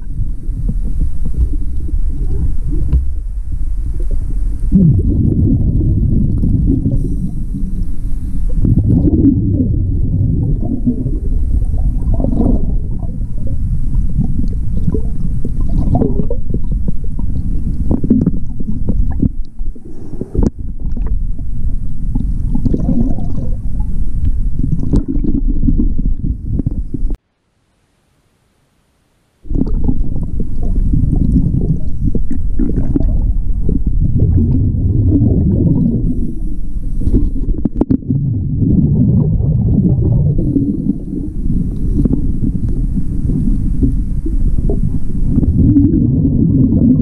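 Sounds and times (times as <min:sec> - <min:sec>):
scuba regulator exhaust bubbles: 0:00.0 - 0:27.2, 0:29.4 - 0:47.0
water gurgling against camera: 0:00.0 - 0:27.2, 0:29.4 - 0:47.0.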